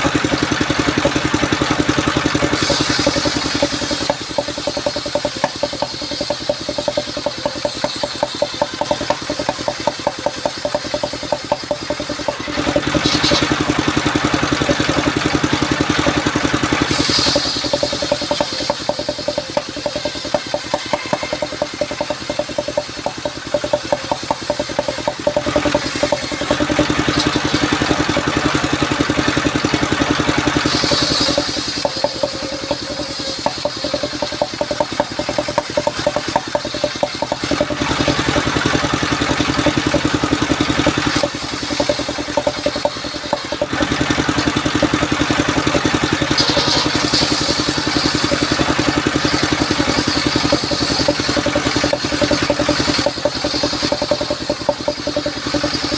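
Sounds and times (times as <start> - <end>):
engine firing pulses: 0.0 - 55.9
circular saw blade ripping wood: 1.2 - 55.9.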